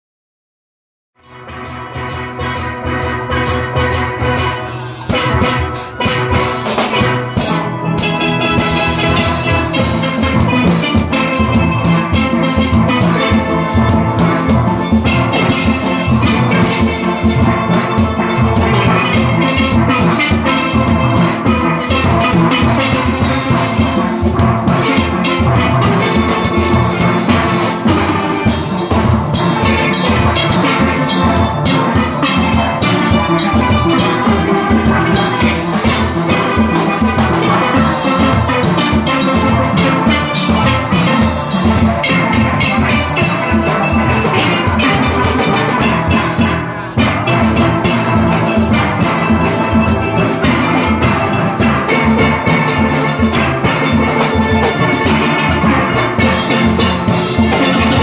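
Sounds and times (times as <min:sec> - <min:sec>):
steelband playing: 0:01.2 - 0:58.0.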